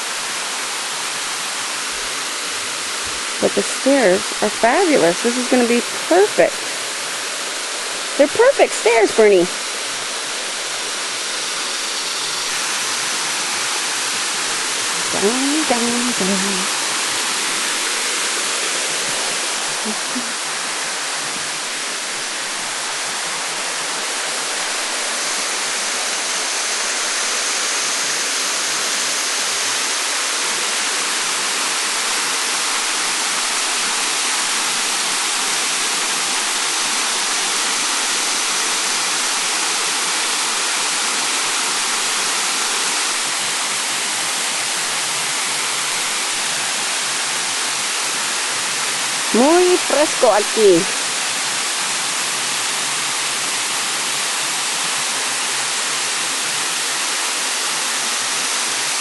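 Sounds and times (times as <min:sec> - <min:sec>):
waterfall and river rushing: 0:00.0 - 0:59.0.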